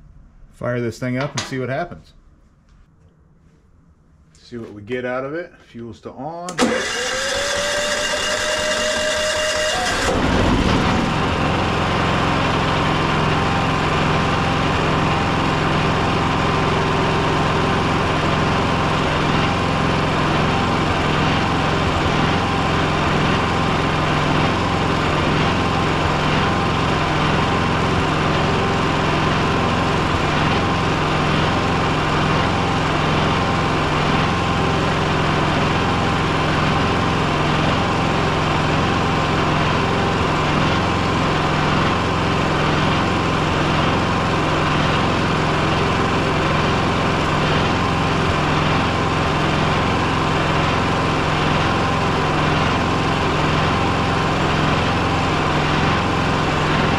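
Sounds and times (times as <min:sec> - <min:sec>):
generator engine running steadily: 0:06.5 - 0:56.9.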